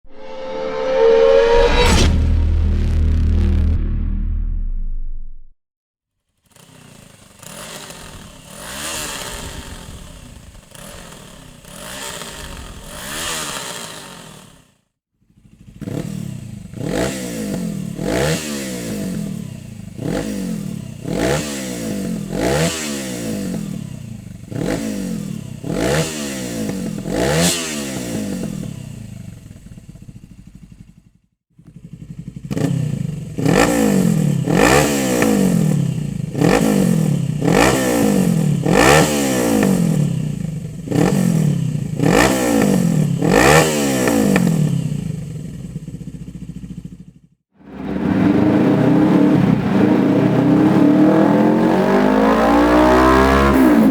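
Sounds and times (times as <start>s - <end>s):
motorcycle engine revving: 0.0s - 4.6s, 6.4s - 53.9s.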